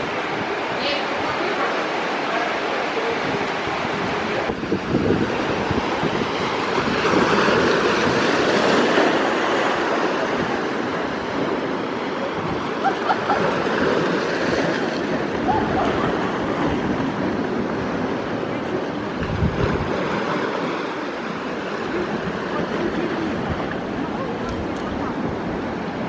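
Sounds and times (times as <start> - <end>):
waves breaking: 0.0 - 26.0
wind buffeting microphone: 0.0 - 26.0.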